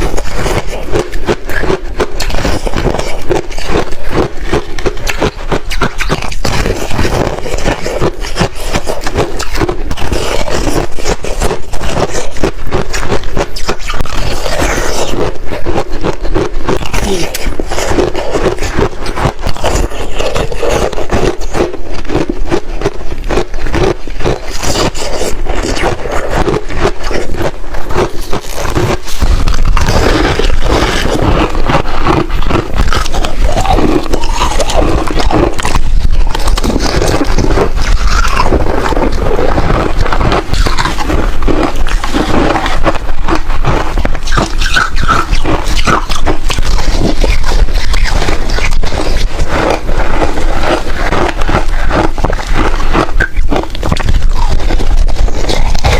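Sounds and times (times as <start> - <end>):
frost being scraped and crunched: 0.0 - 55.9.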